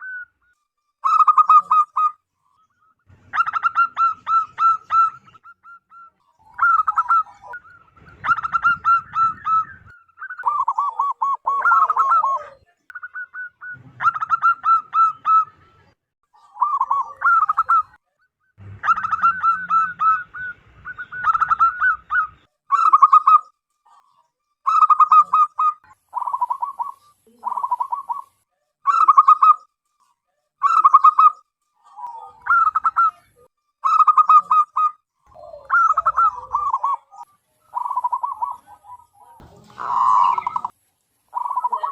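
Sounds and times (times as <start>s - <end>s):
dove cooing: 1.0s - 2.2s, 3.2s - 15.6s, 16.4s - 18.0s, 18.6s - 23.4s, 24.7s - 29.6s, 30.6s - 41.9s.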